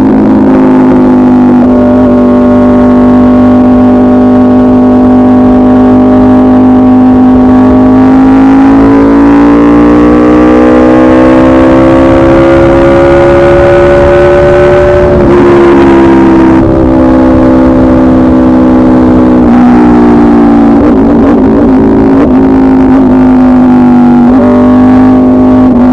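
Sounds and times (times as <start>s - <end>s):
loud motorcycle engine revving: 0.0s - 25.9s.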